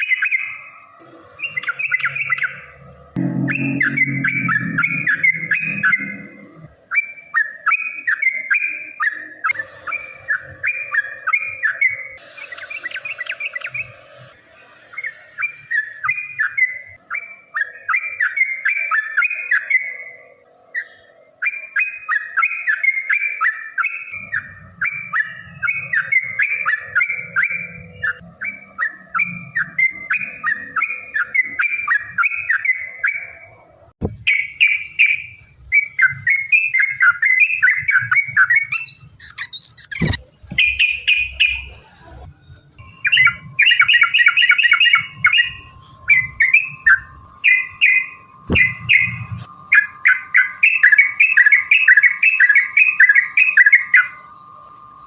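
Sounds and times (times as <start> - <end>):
bulbul chirping song: 0.0 - 41.9, 42.8 - 55.0.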